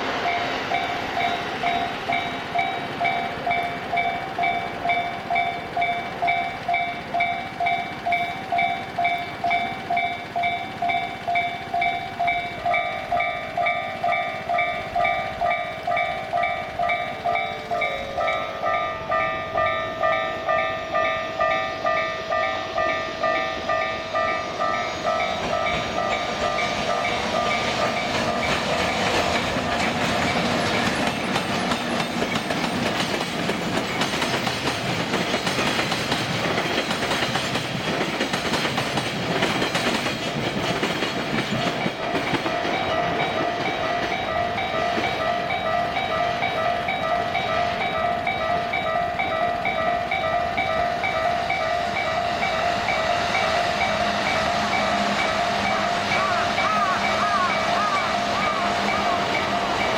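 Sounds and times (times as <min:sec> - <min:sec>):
freight train rumble and clatter: 0:00.0 - 0:59.9
level-crossing warning bells: 0:00.0 - 0:59.9.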